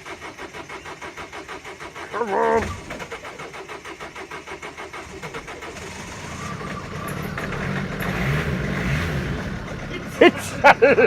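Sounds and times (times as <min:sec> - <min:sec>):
diesel engine cranking and starting: 0:00.0 - 0:11.0.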